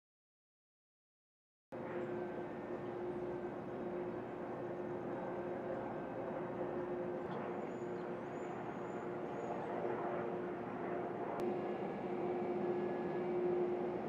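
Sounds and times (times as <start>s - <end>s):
shipyard background hum: 1.8s - 14.0s.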